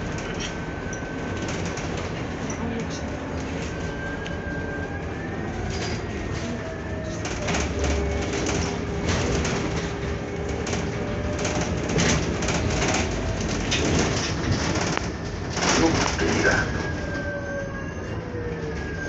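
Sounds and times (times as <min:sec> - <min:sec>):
bus engine rumble: 0:00.0 - 0:19.0
rattles and clicks from bus body: 0:00.0 - 0:19.0.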